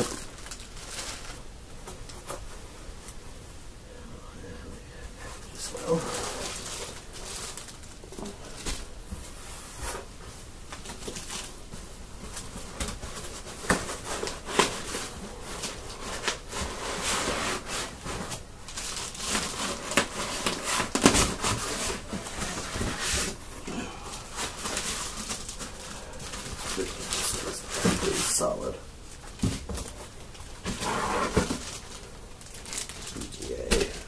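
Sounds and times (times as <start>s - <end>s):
packaging rustling: 0.0s - 3.2s, 5.3s - 10.1s, 10.7s - 34.0s.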